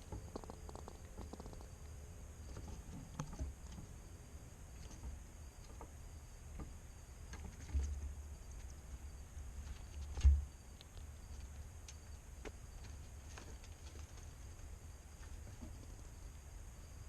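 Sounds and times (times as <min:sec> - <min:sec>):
small animals feeding clicks: 0:00.0 - 0:16.4.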